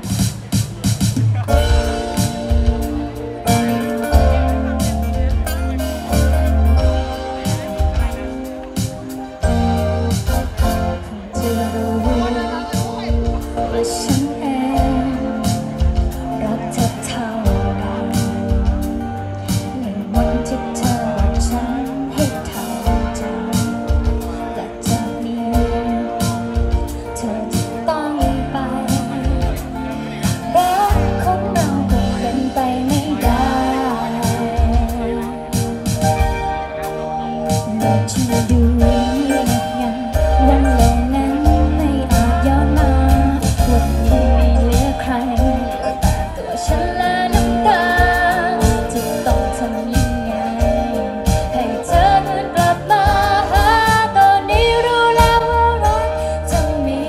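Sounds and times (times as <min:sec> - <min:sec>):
live band playing pop song: 0:00.0 - 0:57.0
person singing: 0:01.5 - 0:57.0.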